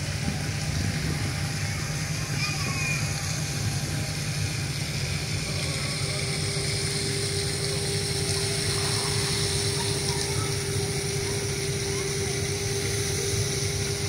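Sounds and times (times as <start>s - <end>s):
mid-pitched hum: 0.0s - 14.0s
ship engine rumble with hiss: 0.0s - 14.0s.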